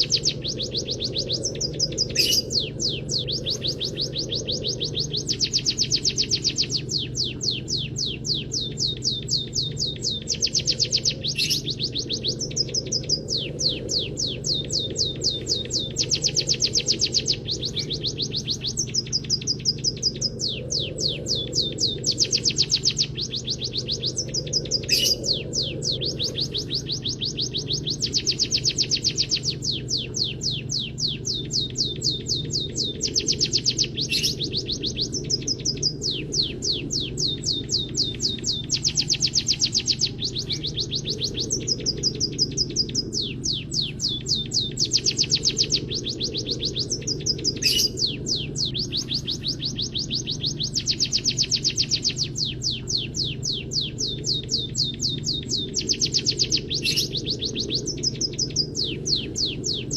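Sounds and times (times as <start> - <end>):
bird singing chirps and trills: 0.0 - 59.9
steady low hum: 0.0 - 59.9.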